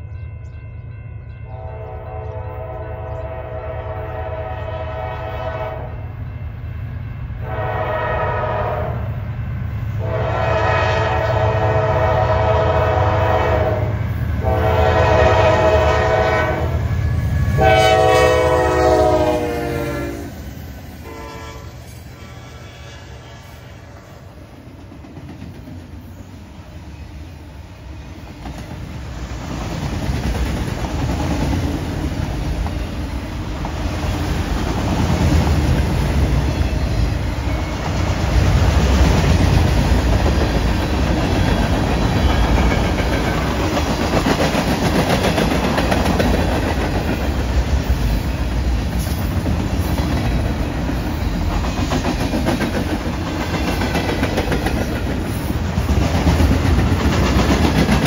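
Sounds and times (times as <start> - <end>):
train passing: 0.0 - 58.0.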